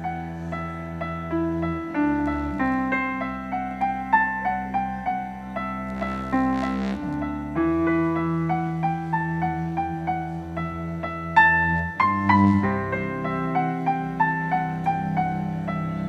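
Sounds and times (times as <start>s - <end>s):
piano keyboard playing: 0.0s - 16.0s.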